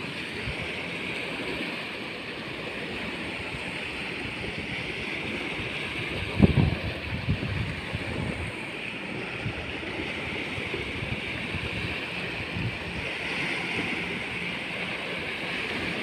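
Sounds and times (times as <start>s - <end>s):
small waves on sandy shore: 0.0s - 16.0s
wind buffeting microphone: 2.7s - 16.0s.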